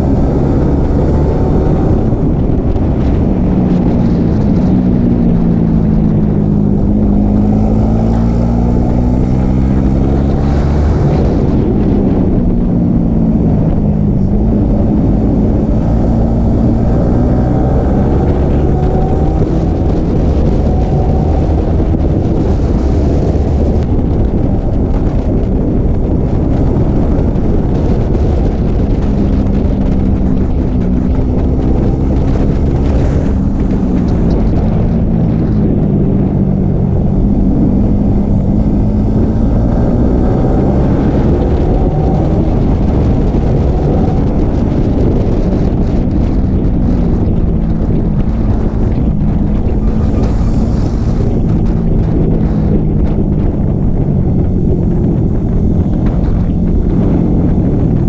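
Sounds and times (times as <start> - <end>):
motorcycle engine running: 0.0 - 58.0
wind noise on microphone: 0.0 - 58.0.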